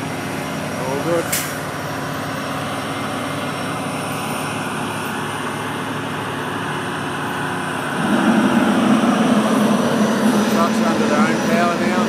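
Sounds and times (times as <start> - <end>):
heavy trucks passing: 0.0 - 12.0
low engine drone: 0.0 - 12.0.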